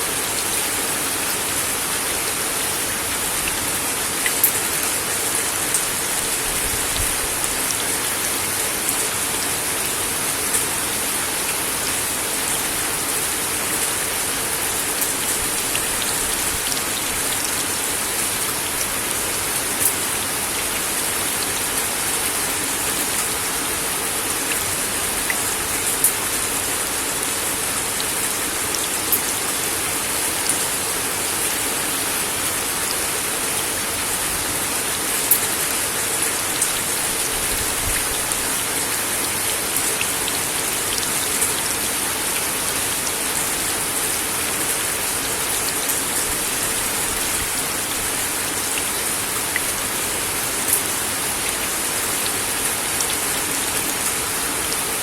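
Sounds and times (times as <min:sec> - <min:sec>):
rain on a wooden deck: 0:00.0 - 0:55.0.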